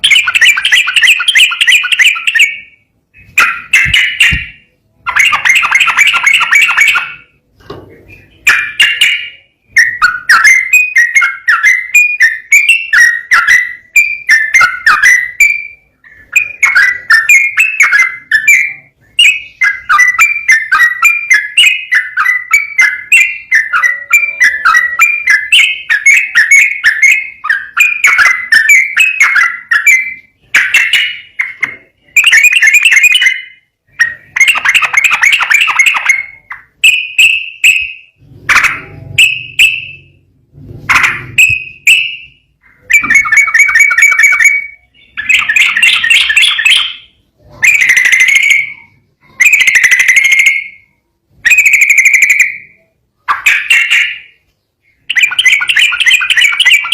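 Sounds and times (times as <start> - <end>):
bird singing bubbly whistled song: 0.0 - 7.4, 8.1 - 40.2, 41.0 - 56.9.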